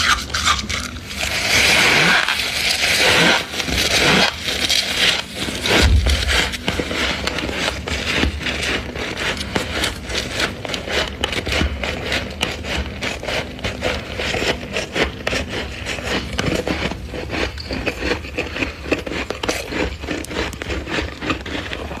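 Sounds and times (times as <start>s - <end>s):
freezer frost crunching: 0.0s - 22.0s.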